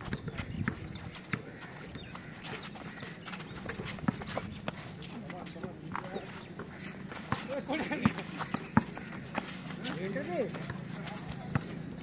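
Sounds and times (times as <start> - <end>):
basketball bouncing on concrete: 0.0 - 4.8, 5.6 - 12.0.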